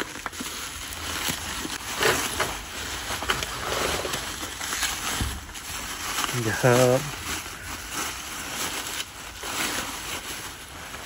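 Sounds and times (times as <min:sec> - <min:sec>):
packing material rustling: 0:00.0 - 0:11.0.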